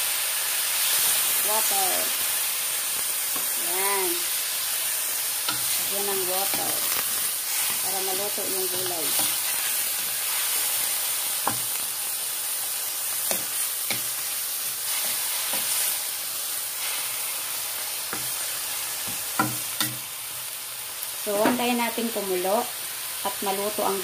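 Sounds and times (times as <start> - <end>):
vegetables sizzling in a wok: 0.0 - 24.0.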